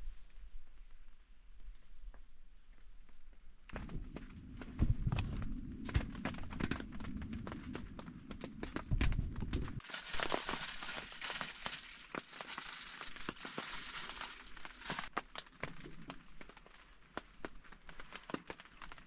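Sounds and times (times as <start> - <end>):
kindling crackling in stove: 0.1 - 19.0.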